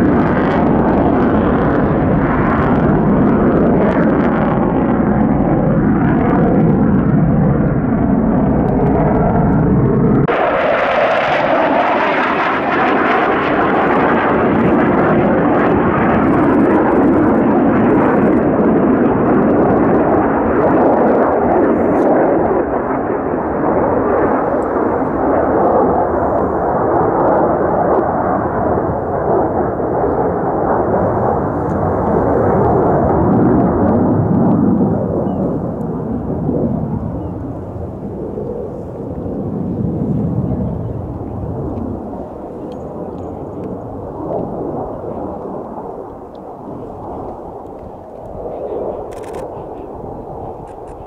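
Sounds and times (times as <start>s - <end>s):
jet engine roaring overhead: 0.0s - 51.0s.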